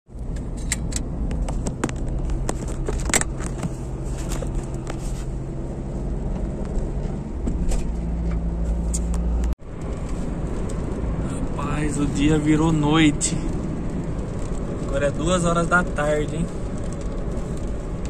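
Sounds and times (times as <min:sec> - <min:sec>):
car engine and road rumble: 0:00.1 - 0:18.0.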